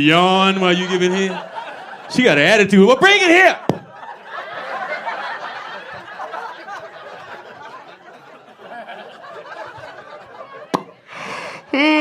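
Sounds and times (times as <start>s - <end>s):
audience laughing: 0.5s - 11.7s.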